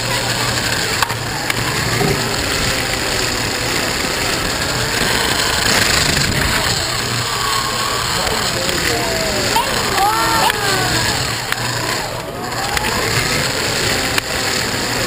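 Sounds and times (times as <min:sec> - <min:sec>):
slot car motor buzzing: 0:00.0 - 0:15.0.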